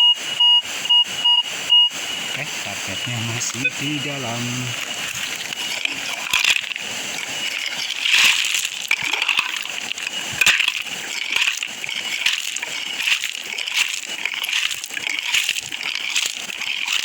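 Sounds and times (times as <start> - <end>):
digging tool striking gravel: 3.1 - 17.0.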